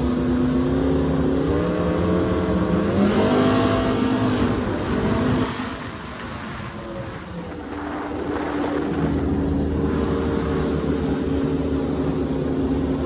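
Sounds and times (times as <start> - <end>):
powerboat engine running: 0.0 - 13.0
water and spray rushing: 0.0 - 13.0.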